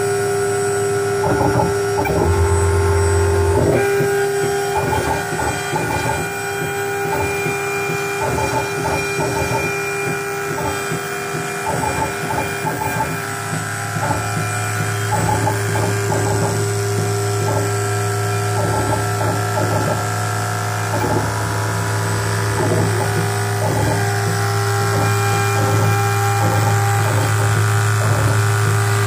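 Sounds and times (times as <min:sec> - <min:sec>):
spindle whine: 0:00.0 - 0:29.0
stepper motor and gear noise: 0:00.0 - 0:29.0
steady low hum: 0:01.3 - 0:29.0.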